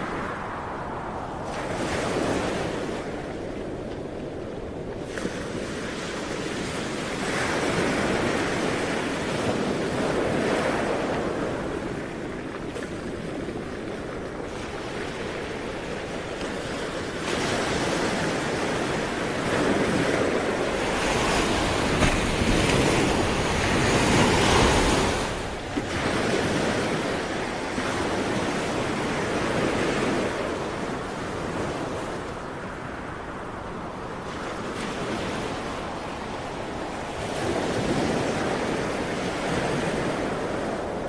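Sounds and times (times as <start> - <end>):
ocean surf rushing: 0.0 - 12.6, 13.4 - 41.0.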